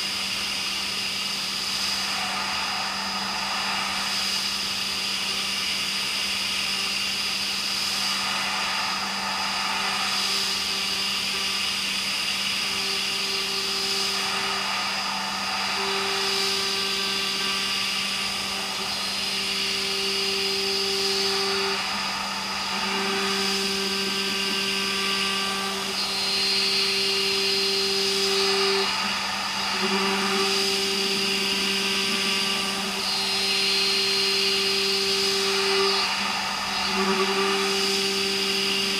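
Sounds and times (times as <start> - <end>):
intermittent second machine tone: 0.0 - 38.9
milling machine hum and whine: 0.0 - 38.9.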